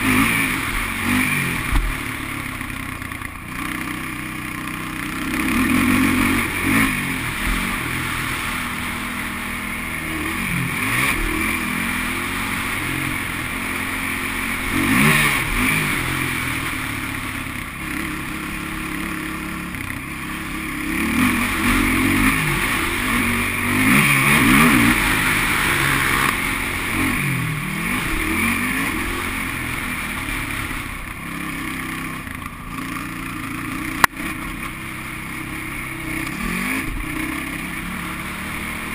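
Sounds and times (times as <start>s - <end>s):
quad engine revving: 0.0s - 38.9s
rush of riding noise: 0.0s - 38.9s.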